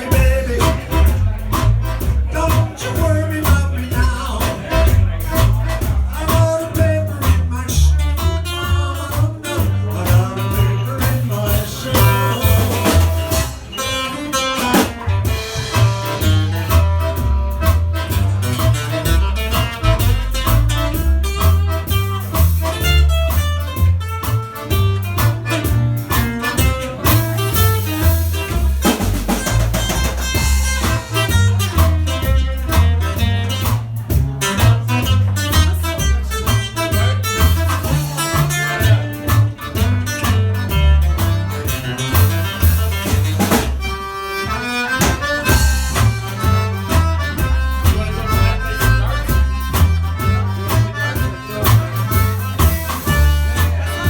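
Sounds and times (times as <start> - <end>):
live band playing: 0.0 - 54.0
prominent bass line: 0.0 - 54.0.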